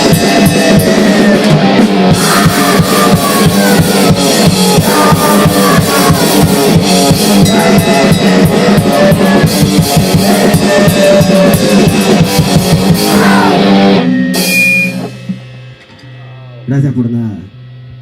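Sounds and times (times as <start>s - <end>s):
fast dense drumming: 0.0s - 17.4s
distorted guitar: 0.0s - 18.0s.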